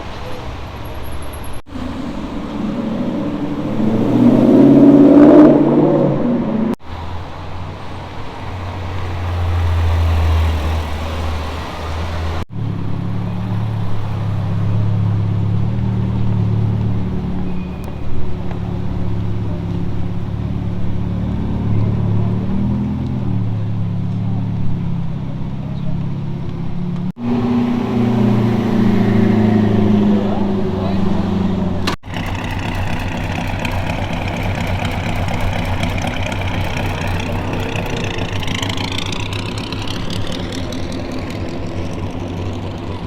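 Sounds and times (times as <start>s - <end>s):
car engine accelerating: 0.0s - 43.0s
car engine idling: 0.2s - 43.0s.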